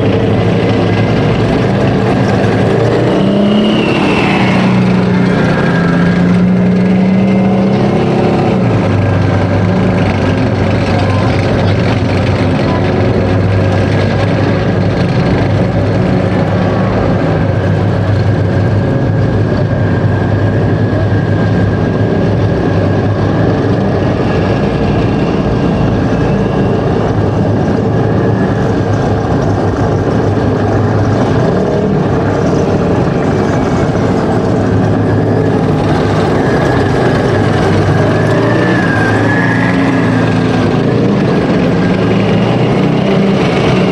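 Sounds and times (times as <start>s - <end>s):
high whine: 0.0s - 43.9s
tank diesel engines running: 0.0s - 43.9s.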